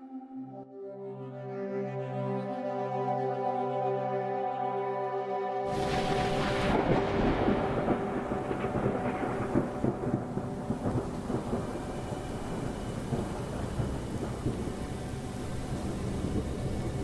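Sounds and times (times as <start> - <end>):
slow ambient music: 0.0 - 17.0.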